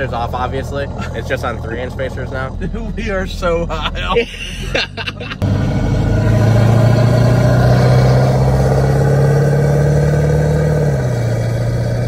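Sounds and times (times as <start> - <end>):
pickup truck engine pulling: 0.0 - 12.0.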